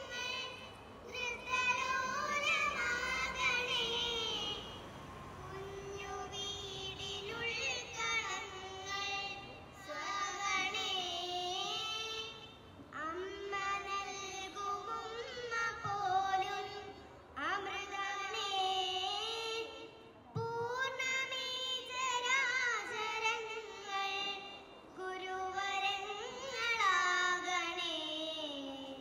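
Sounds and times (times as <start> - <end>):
girls singing into microphones: 0.0 - 29.0.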